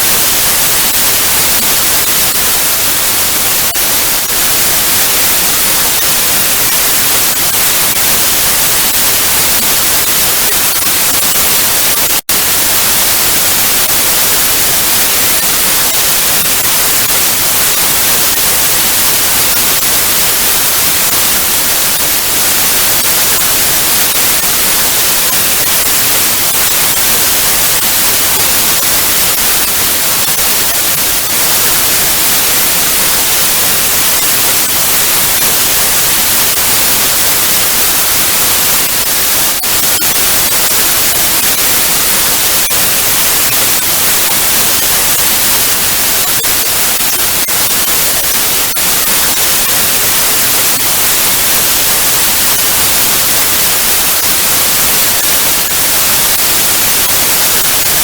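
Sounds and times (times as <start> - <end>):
tv static hiss: 0.0 - 58.0.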